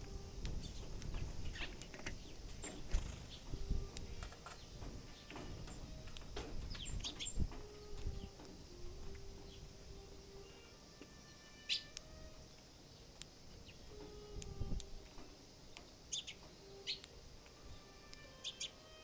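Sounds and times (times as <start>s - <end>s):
sparrow pecking clicks: 0.0s - 9.2s, 11.0s - 18.7s
sparrows chirping: 0.0s - 14.4s, 15.3s - 19.0s.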